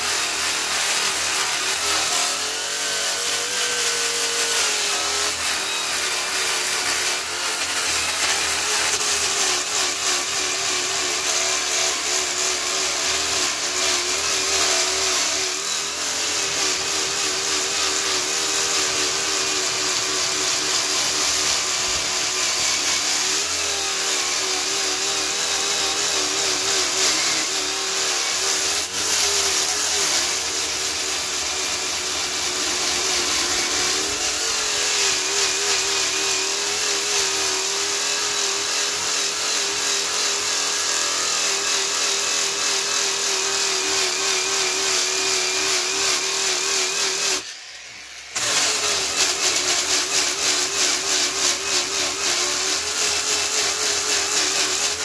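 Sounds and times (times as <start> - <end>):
electric grinder sanding wood: 0.0 - 55.0.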